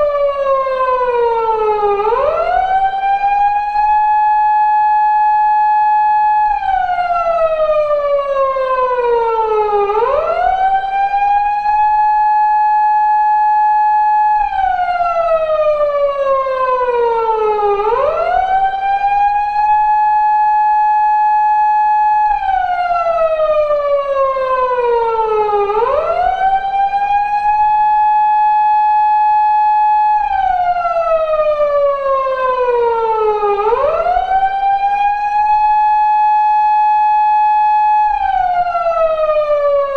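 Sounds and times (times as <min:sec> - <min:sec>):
police car siren: 0:00.0 - 0:39.9.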